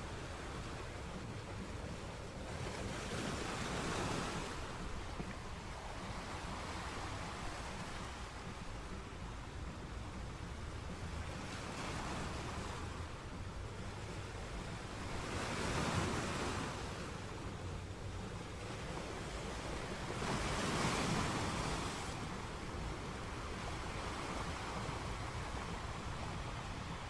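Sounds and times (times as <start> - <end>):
low rumble of surf: 0.0 - 27.0
ocean waves washing onto shore: 0.0 - 27.0.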